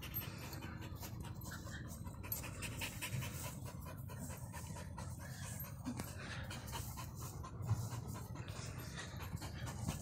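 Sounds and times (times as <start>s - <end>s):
dog panting: 0.0s - 10.0s.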